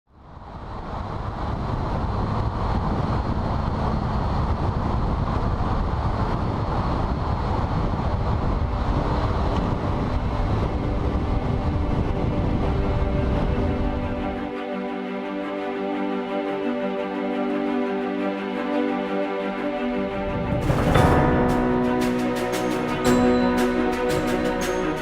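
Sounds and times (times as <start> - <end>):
rush of wind: 0.1 - 25.0.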